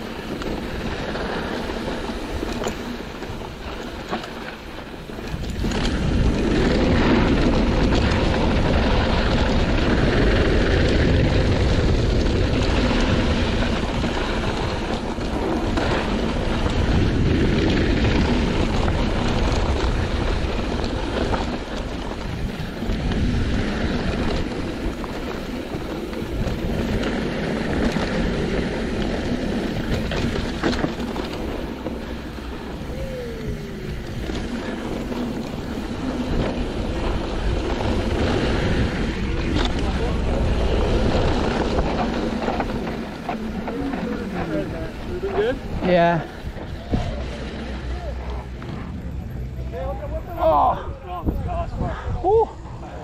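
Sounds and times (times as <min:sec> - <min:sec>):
bike rattling on dirt trail: 0:00.0 - 0:53.0
wind buffeting microphone: 0:00.0 - 0:53.0.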